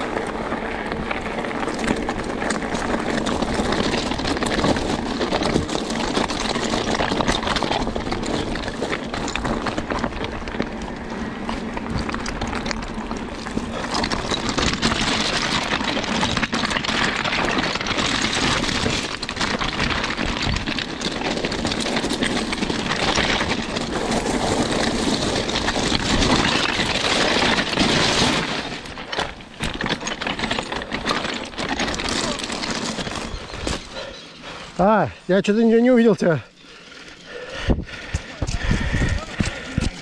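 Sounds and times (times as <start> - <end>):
bike clicking and rattling: 0.0 - 40.0
bike tyre noise: 0.0 - 40.0.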